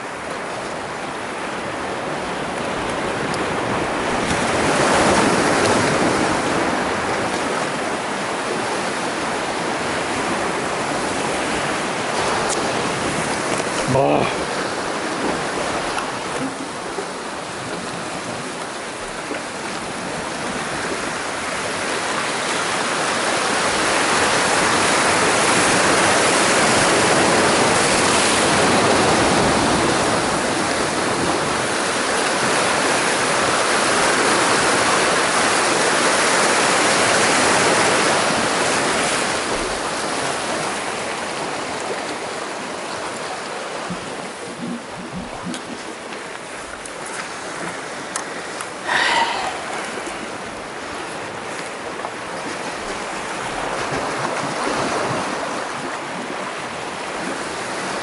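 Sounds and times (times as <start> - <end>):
surf breaking over rocks: 1.6 - 58.0.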